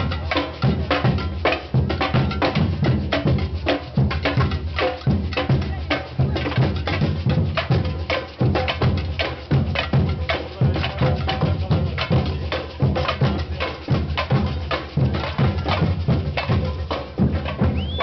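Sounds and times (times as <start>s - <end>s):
bass drums beating: 0.0s - 18.0s
fast stick drumming: 0.0s - 18.0s.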